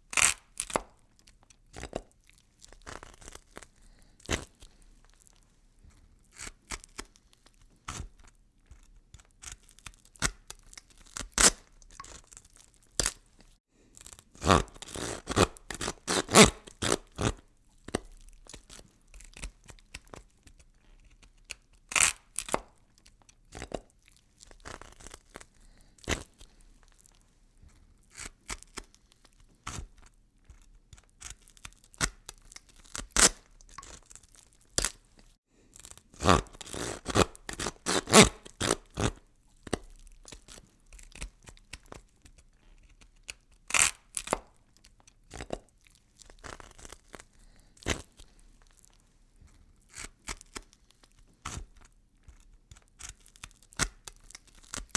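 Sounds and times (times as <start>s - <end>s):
gory crunching and snapping: 0.0s - 5.5s, 6.3s - 54.9s.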